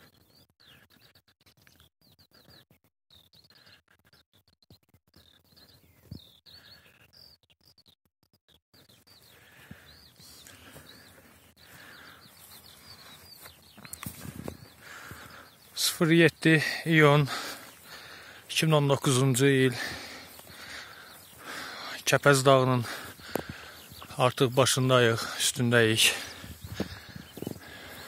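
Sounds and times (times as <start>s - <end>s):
faint birdsong chirps: 0.0s - 28.0s.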